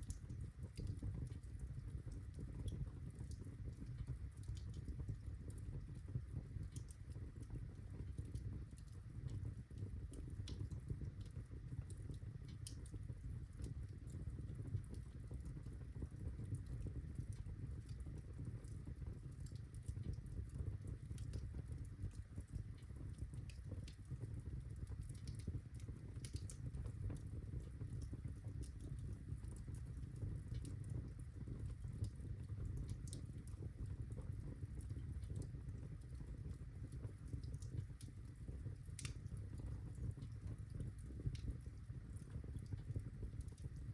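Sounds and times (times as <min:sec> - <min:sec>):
fire crackling in fireplace: 0:00.0 - 0:43.9.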